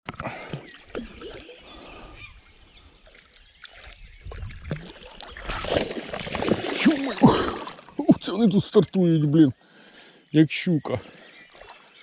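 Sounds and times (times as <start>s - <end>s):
water trickling and splashing: 0.0s - 9.8s, 10.4s - 12.0s.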